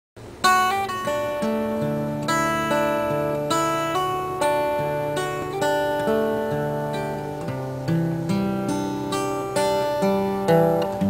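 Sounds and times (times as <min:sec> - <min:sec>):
plucked string instrument chords: 0:00.2 - 0:11.0.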